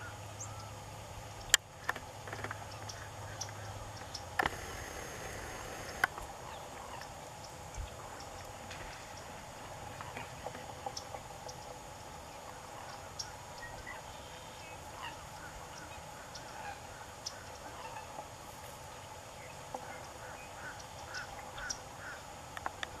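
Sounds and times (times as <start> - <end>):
distant bird calls: 0.0 - 23.0
faint steady hiss: 0.0 - 23.0.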